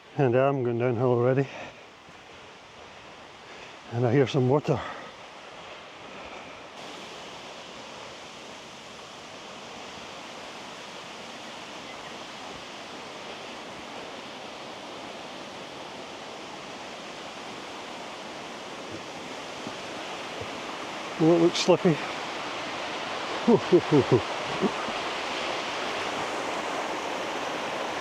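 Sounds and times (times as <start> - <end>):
forest stream rushing: 0.0 - 28.0.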